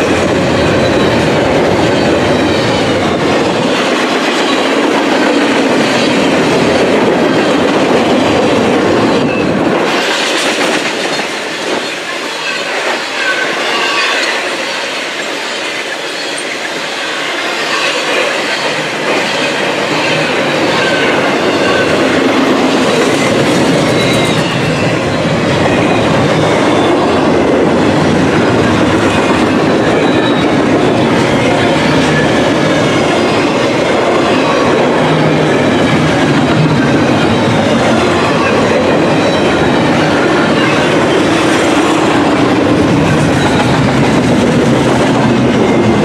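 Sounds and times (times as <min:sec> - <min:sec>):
freight train wheels clattering: 0:00.0 - 0:46.0.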